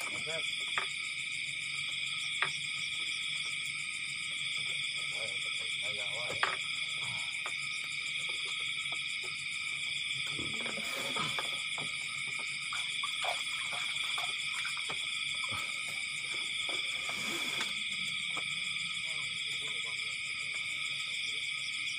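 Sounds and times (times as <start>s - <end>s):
frogs and insects trilling: 0.0s - 21.9s.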